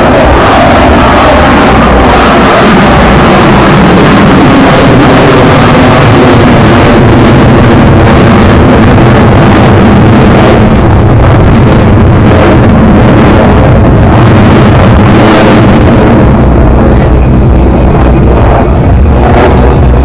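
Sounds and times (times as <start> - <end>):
jet engine roaring overhead: 0.0 - 20.0.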